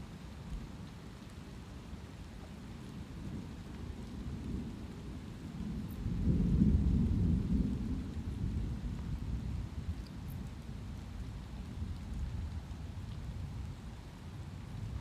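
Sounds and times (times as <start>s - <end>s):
light rain: 0.0s - 15.0s.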